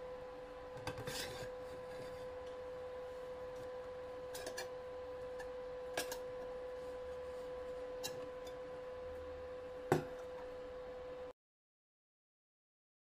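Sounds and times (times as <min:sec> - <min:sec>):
steady high hum: 0:00.0 - 0:11.4.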